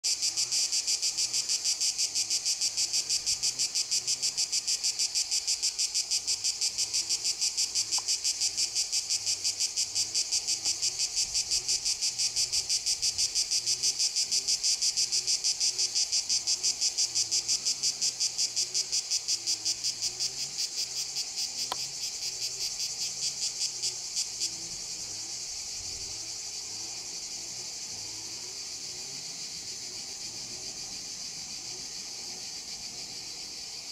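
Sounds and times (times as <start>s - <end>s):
high insect buzz: 0.0s - 33.9s
insects chirping: 0.0s - 33.9s.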